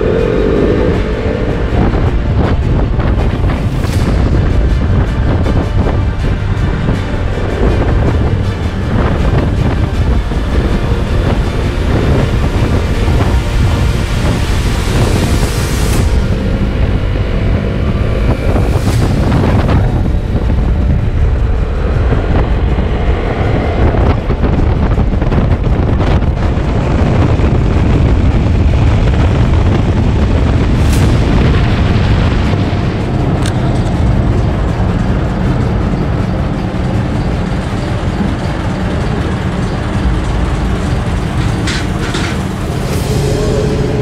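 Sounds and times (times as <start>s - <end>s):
motorcycle engine: 0.0s - 44.0s
wind buffeting microphone: 0.0s - 44.0s.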